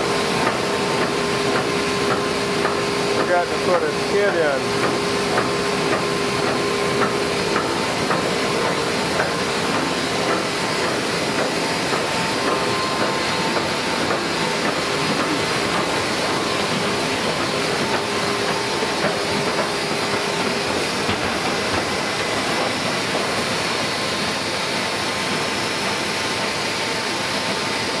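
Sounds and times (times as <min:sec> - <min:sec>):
printing press clatter and hiss: 0:00.0 - 0:28.0.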